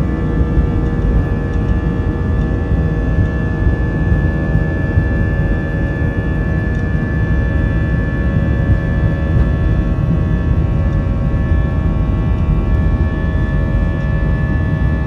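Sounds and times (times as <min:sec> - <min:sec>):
jet engines droning: 0:00.0 - 0:15.0.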